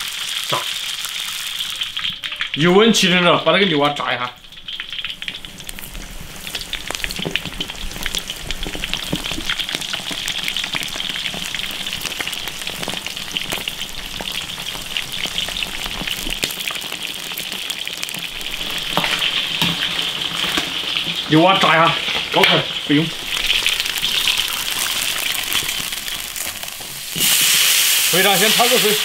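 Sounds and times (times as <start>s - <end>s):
food deep-frying in hot oil: 0.0s - 29.0s
oil crackling and popping: 0.0s - 29.0s.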